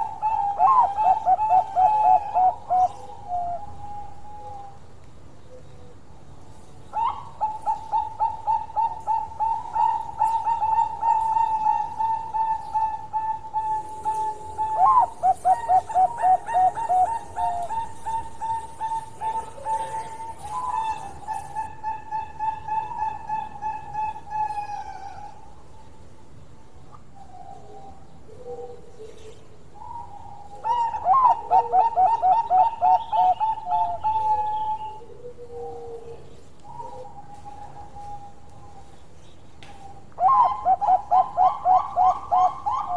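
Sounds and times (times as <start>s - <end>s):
dove cooing: 0.0s - 4.8s, 6.9s - 25.8s, 26.9s - 42.9s.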